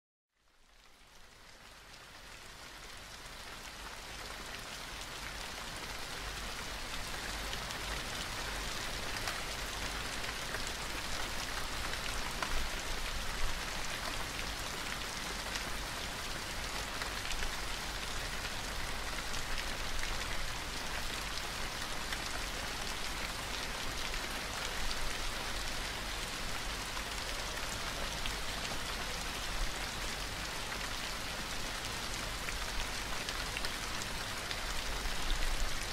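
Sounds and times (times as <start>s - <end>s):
rain falling: 0.4s - 35.9s.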